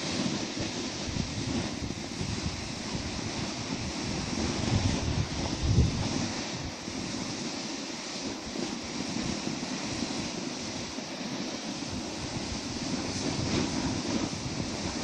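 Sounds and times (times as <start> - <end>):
snowboard scraping over snow: 0.0 - 15.0
wind buffeting microphone: 0.0 - 15.0.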